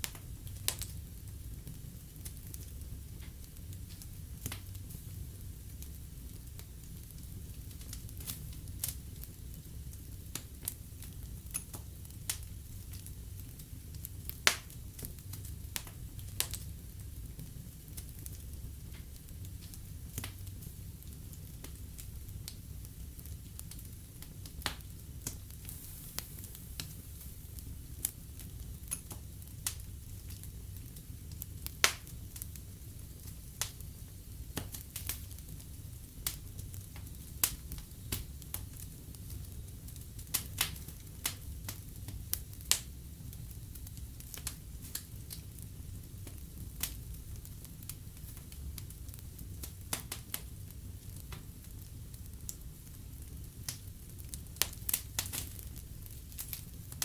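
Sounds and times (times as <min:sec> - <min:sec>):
fire crackling and popping: 0:00.0 - 0:57.0
fire rumble and hiss: 0:00.0 - 0:57.0.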